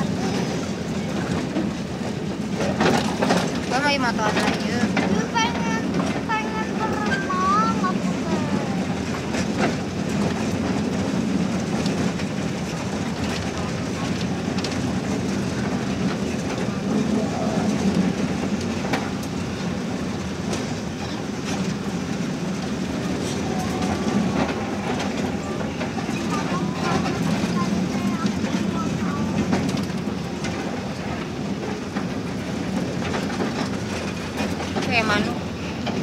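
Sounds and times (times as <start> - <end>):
ride train rumbling: 0.0 - 36.0
wheels clicking on track: 0.0 - 36.0.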